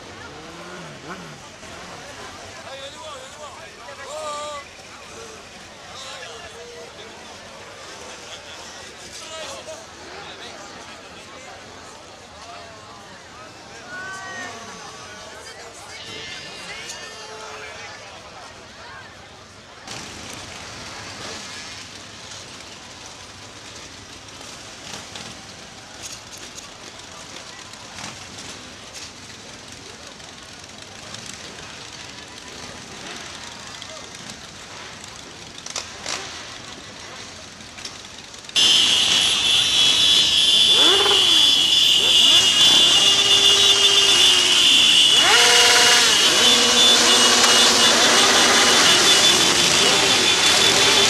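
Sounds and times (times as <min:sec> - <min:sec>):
motorcycle engines revving: 0:00.0 - 0:12.4, 0:19.8 - 0:51.0.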